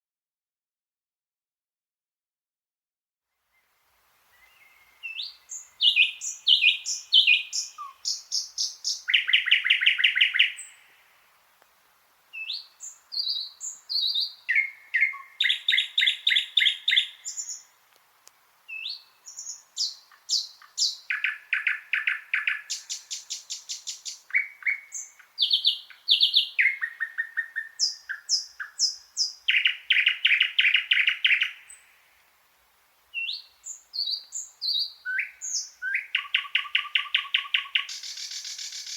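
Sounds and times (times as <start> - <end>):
nightingale singing: 3.5 - 11.3, 12.3 - 17.8, 18.7 - 32.2, 33.1 - 38.9.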